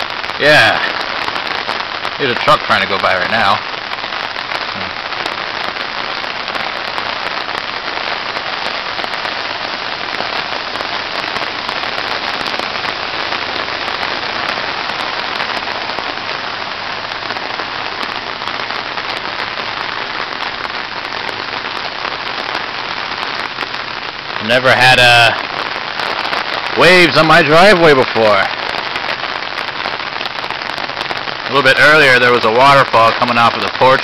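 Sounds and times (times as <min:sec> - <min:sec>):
heavy rain on flooded ground: 0:00.0 - 0:34.0.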